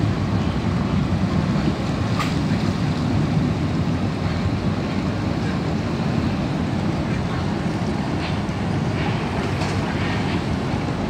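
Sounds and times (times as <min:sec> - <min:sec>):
ship engine rumble: 0:00.0 - 0:11.0.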